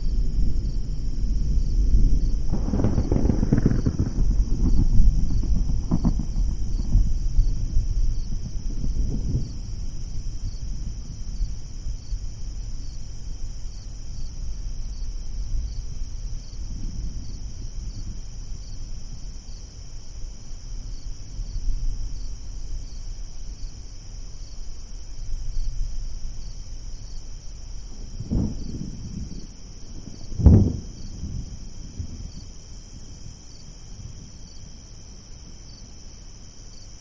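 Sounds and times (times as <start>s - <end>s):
distant thunder rumble: 0.0s - 19.4s, 24.9s - 36.0s
crickets chirping: 0.0s - 37.0s.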